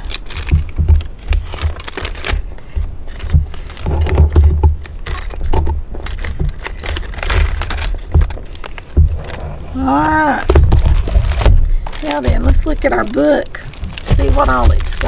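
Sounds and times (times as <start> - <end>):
hard accessories clinking and scraping: 0.0 - 15.0
rustling: 0.0 - 15.0.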